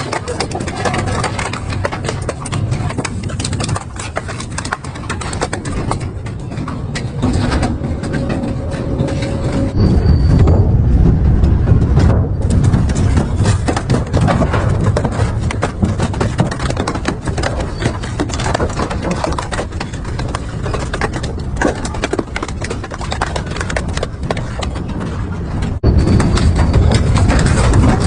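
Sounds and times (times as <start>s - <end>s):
material cracking and crunching: 0.0s - 28.0s
metal shredder rumbling: 0.0s - 28.0s.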